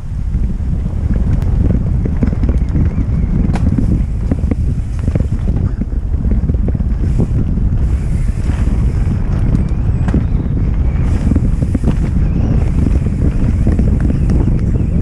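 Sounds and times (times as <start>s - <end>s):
bike clicks and rattles: 0.0s - 15.0s
tyres running over dirt: 0.0s - 15.0s
wind buffeting microphone: 0.0s - 15.0s.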